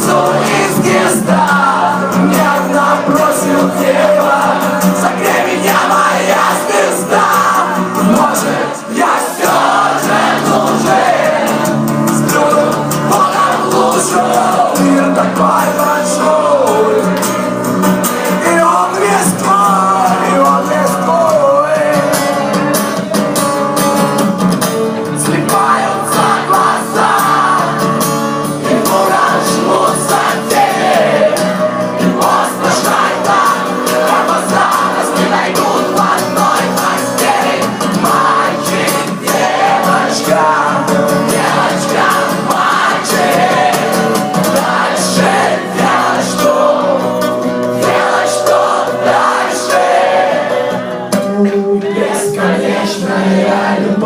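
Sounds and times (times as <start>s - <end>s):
live rock band with singing: 0.0s - 54.0s.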